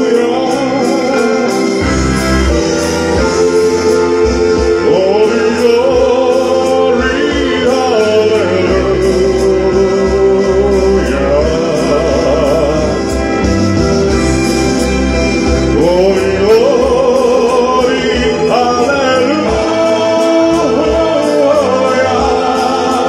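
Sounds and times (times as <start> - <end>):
gospel backing track with choir: 0.0 - 23.0
man singing with vibrato: 0.0 - 23.0.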